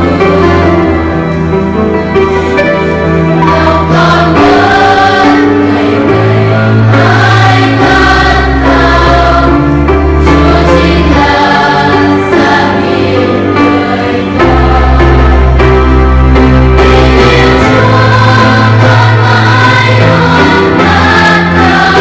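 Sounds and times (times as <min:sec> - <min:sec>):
children's choir singing hymn: 0:00.0 - 0:01.2, 0:03.4 - 0:22.0
instrumental accompaniment: 0:00.0 - 0:22.0.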